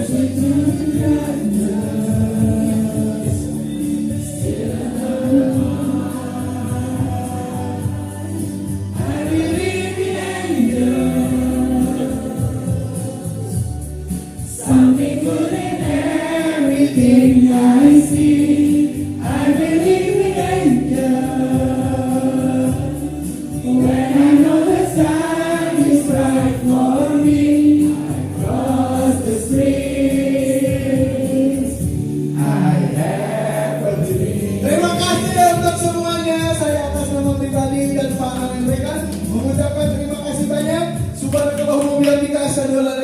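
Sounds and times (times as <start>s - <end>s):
group of voices singing: 0.0s - 37.1s.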